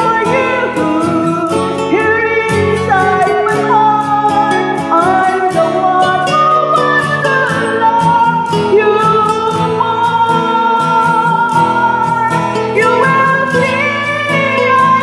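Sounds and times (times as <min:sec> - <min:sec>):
backing track with guitar and beat: 0:00.0 - 0:15.0
woman singing into microphone: 0:00.0 - 0:15.0.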